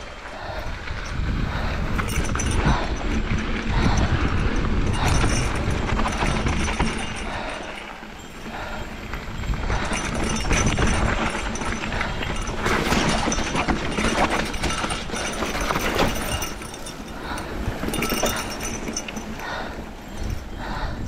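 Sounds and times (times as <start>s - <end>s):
bike rattling and knocking: 0.0s - 21.0s.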